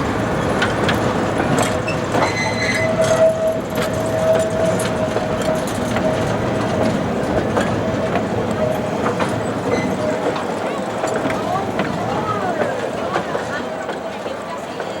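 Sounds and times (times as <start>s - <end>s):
train rolling rumble: 0.0s - 15.0s
wheels clicking over rails: 0.0s - 15.0s.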